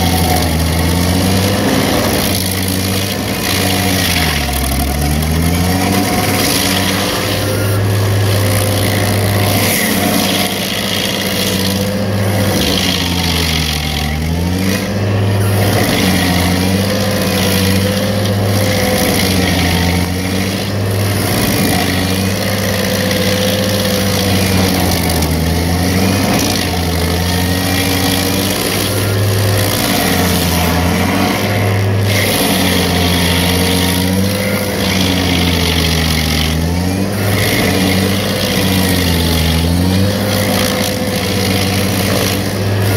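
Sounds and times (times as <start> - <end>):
cutter wheel grinding wood: 0.0 - 42.9
stump grinder engine at high throttle: 0.0 - 42.9.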